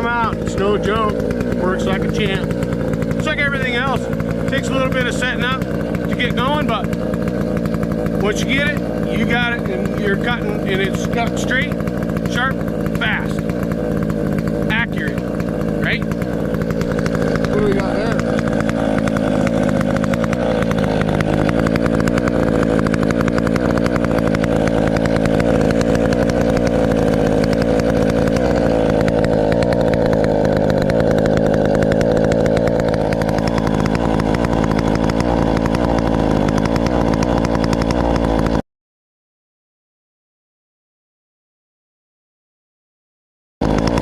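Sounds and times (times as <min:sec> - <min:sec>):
chainsaw cutting at high revs: 0:00.0 - 0:38.6, 0:43.6 - 0:44.0.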